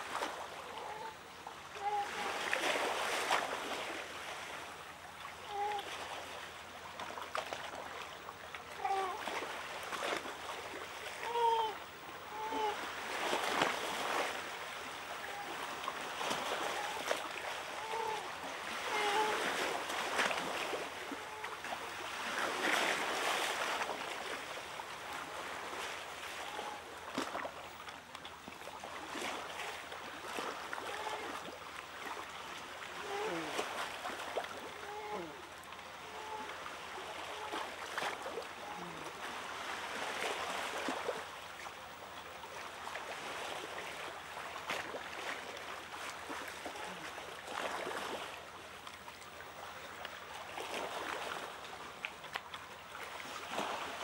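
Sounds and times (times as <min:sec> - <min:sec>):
water splashing over sand: 0:00.0 - 0:54.0.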